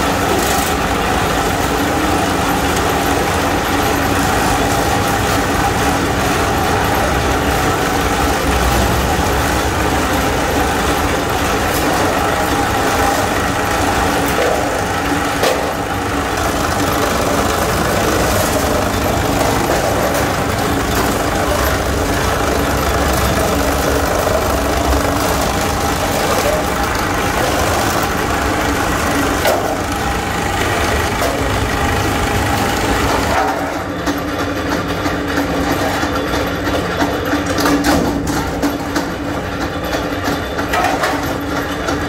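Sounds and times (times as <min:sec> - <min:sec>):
sheet-metal cutting machine drone: 0:00.0 - 0:42.0.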